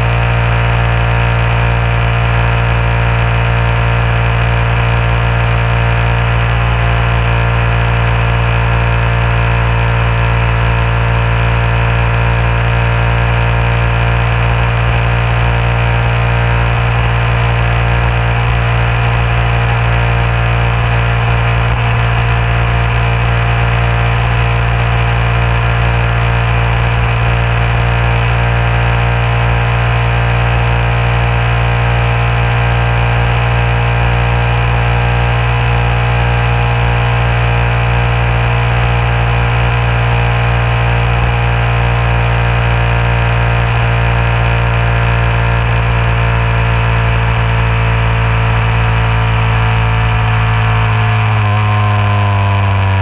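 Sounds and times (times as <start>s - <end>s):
motorcycle engine cruising: 0.0s - 53.0s
road and wind noise: 0.0s - 53.0s.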